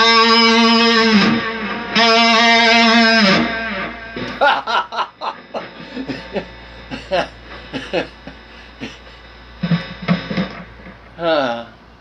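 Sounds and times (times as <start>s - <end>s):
electric guitar wavering notes: 0.0s - 11.7s.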